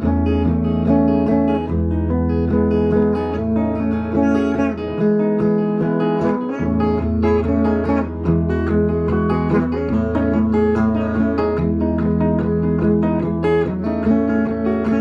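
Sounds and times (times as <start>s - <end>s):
electric guitar picked notes: 0.0s - 15.0s.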